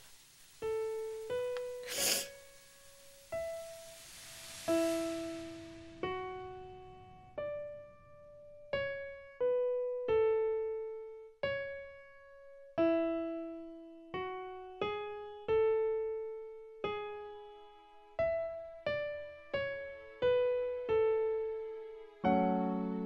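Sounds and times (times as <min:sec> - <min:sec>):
slow solo piano melody: 0:00.6 - 0:21.4.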